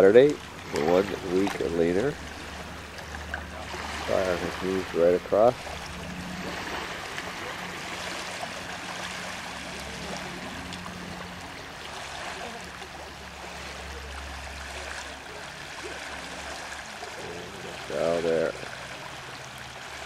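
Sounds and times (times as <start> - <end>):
lake water lapping at shore: 0.0 - 20.0.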